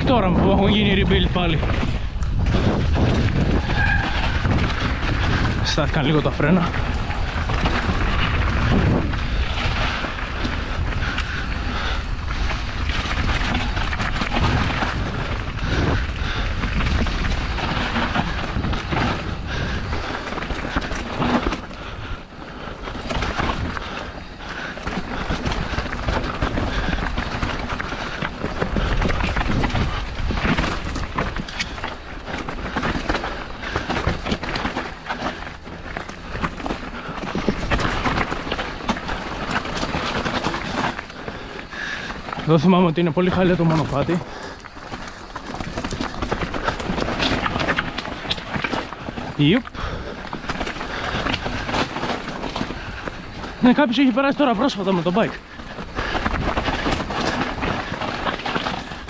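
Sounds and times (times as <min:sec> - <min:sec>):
bike knocking and rattling: 0:00.0 - 0:59.0
bike tyres on dirt and stones: 0:00.0 - 0:59.0
wind rumble on microphone: 0:00.0 - 0:59.0.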